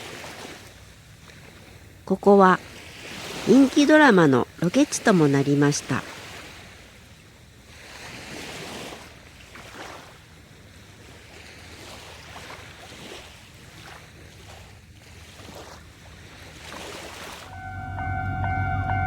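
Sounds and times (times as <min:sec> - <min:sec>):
waves washing in: 0:00.0 - 0:19.0
wind: 0:00.0 - 0:19.0.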